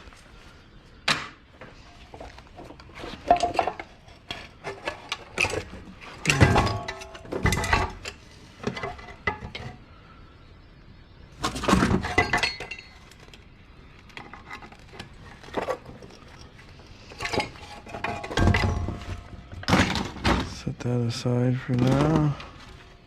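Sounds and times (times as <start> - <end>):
centrifuge parts clinking: 1.8 - 9.8, 11.5 - 20.7, 21.6 - 23.0.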